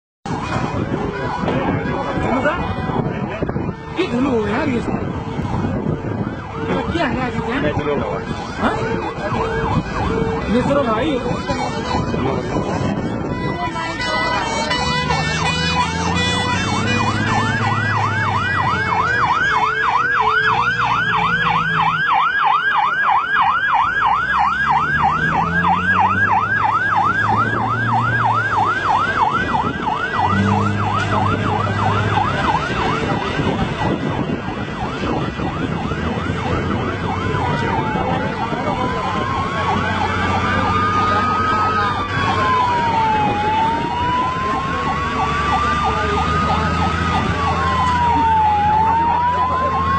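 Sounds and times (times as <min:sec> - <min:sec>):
siren yelping: 0:00.3 - 0:49.9.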